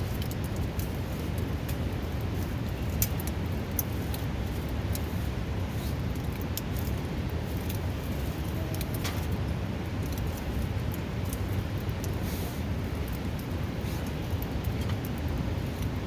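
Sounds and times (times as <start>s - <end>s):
campfire crackles: 0.0s - 16.0s.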